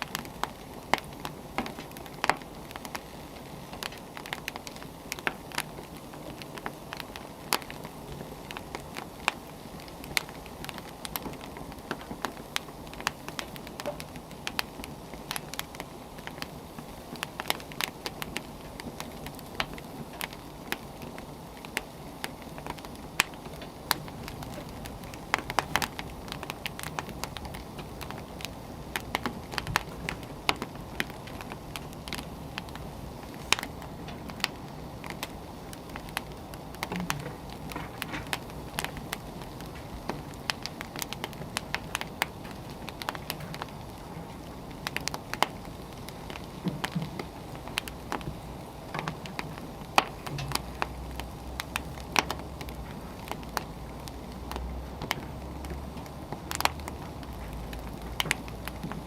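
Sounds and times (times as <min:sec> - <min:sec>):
firewood crackling and popping: 0:00.0 - 0:59.0
wood fire burning: 0:00.0 - 0:59.0.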